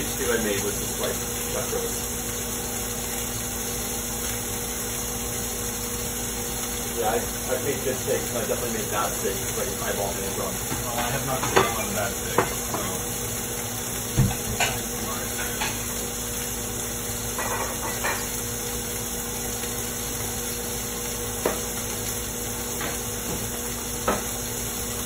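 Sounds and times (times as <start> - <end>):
steak sizzling in pan: 0.0 - 25.0.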